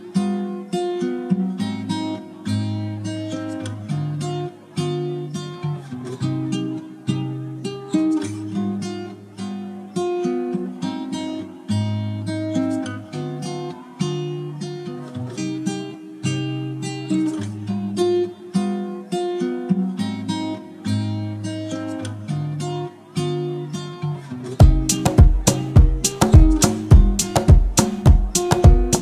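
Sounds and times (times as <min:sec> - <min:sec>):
guitar plucking notes: 0:00.0 - 0:29.0.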